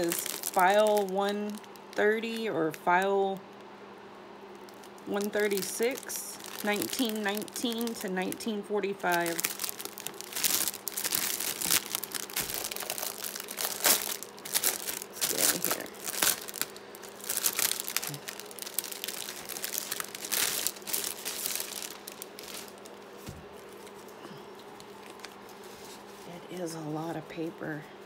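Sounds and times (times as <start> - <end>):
plastic wrap crinkling: 0.0 - 3.7, 4.5 - 26.3.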